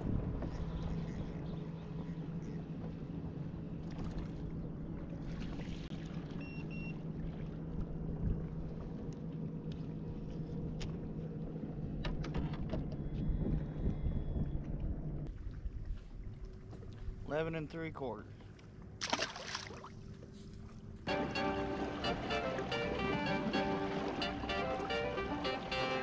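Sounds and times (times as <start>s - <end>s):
water noise: 0.0s - 12.3s, 13.5s - 17.2s, 21.1s - 26.0s
low hum with overtones: 0.0s - 17.2s, 20.2s - 26.0s
wind: 0.0s - 26.0s.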